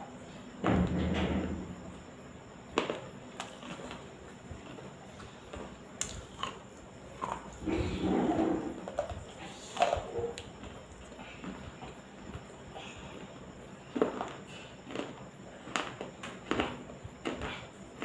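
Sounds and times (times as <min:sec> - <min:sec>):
room fan humming: 0:00.0 - 0:18.0
chewing wet clay: 0:02.8 - 0:12.5, 0:13.1 - 0:18.0.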